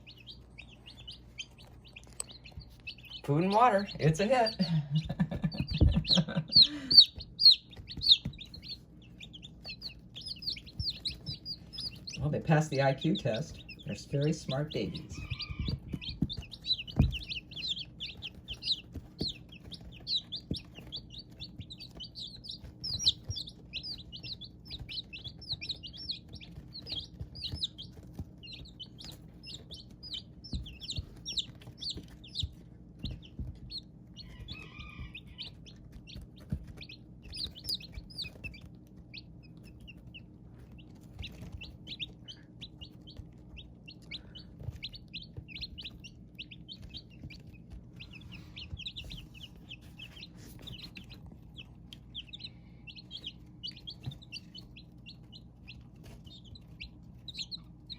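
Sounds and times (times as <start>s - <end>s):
baby chicks peeping: 0.0s - 57.9s.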